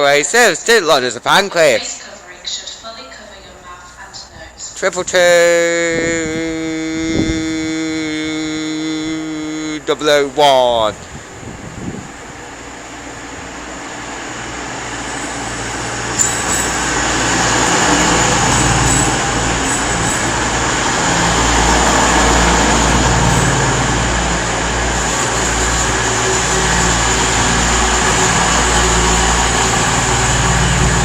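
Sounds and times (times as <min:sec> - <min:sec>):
diesel train arriving: 0:00.0 - 0:31.0.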